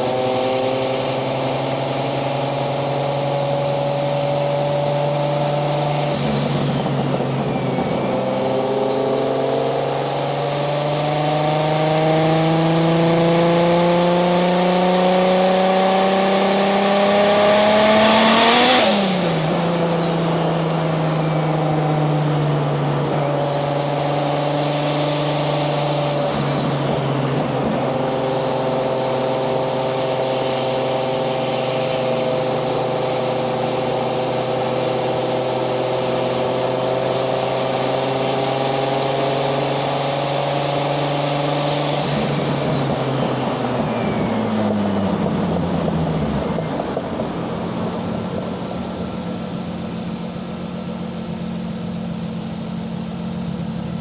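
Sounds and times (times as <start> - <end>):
high turbo whistle: 0.0 - 54.0
turbo car engine cruising: 0.0 - 54.0.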